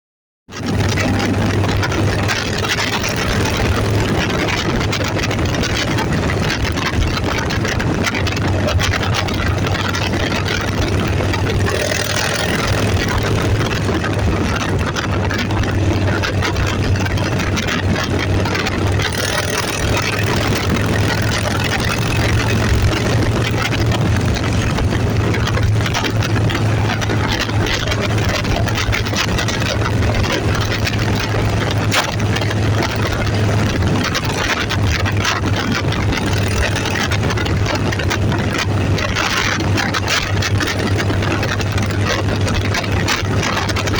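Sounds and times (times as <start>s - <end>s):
vehicle engine droning: 0.5s - 43.9s.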